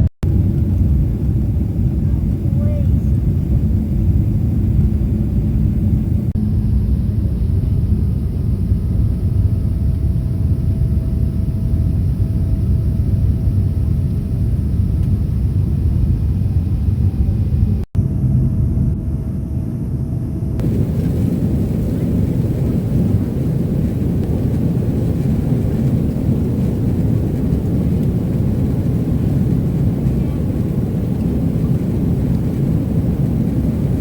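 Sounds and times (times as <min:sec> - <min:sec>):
aircraft cabin engine rumble: 0:00.0 - 0:34.0.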